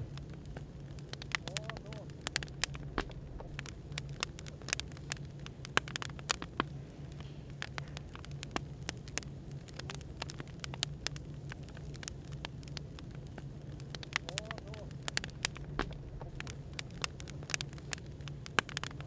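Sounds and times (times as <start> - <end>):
firewood crackling: 0.0 - 19.0
low background white noise: 0.0 - 19.0.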